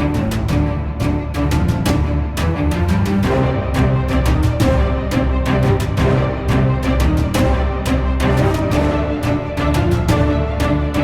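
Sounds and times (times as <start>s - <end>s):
theme music with steady beat: 0.0s - 11.0s.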